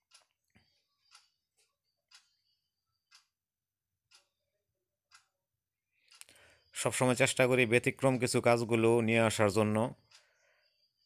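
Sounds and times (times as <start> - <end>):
clock ticking: 0.0 - 4.4, 5.0 - 10.8.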